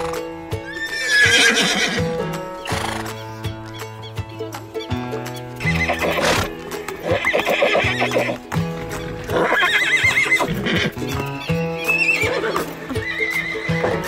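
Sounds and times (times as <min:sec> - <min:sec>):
horse whinnying: 0:00.0 - 0:03.2, 0:05.6 - 0:14.0
background music: 0:00.0 - 0:14.0.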